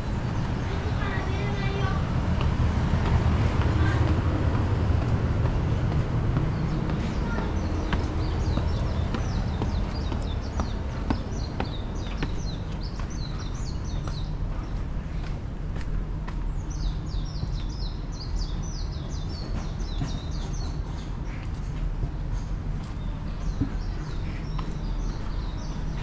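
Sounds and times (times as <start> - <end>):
small birds chirping: 0.0 - 15.5, 16.2 - 26.0
low city rumble: 0.0 - 26.0
footsteps on concrete: 0.1 - 26.0.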